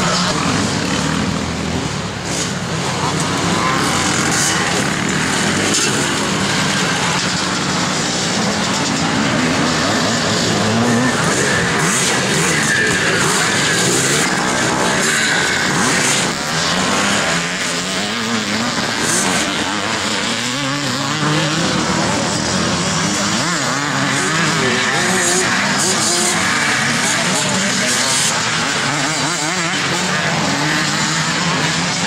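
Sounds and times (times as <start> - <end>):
motocross bikes revving: 0.0 - 32.0.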